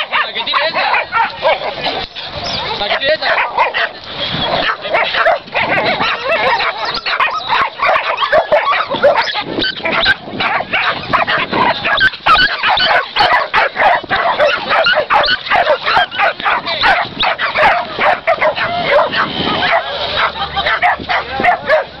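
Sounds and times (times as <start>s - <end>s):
dog yelping and barking: 0.0s - 21.9s.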